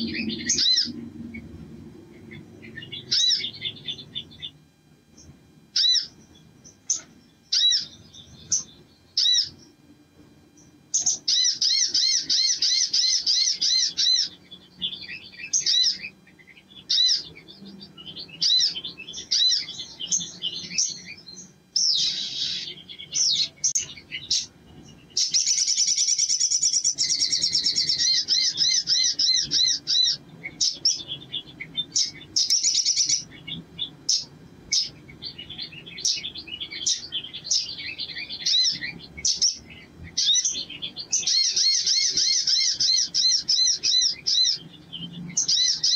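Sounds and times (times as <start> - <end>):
sunbird singing: 0.0 - 45.9.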